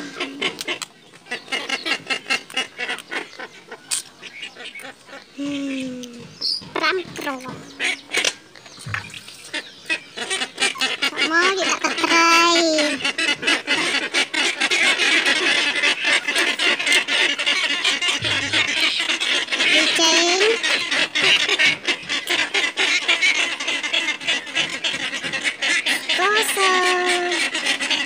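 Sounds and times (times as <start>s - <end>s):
waterfowl honk: 0.0s - 5.3s, 6.8s - 28.0s.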